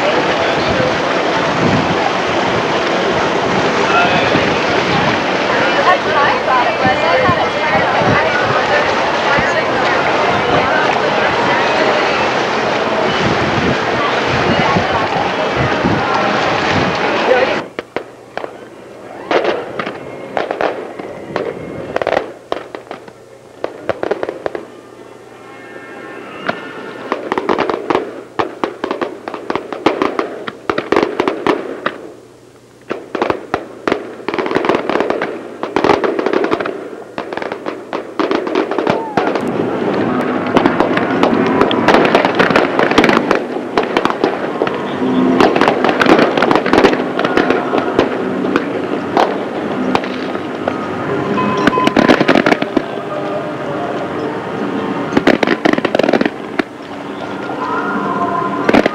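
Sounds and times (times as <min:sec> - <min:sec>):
fireworks bursts and crackling: 0:00.0 - 0:25.6, 0:26.3 - 0:58.9.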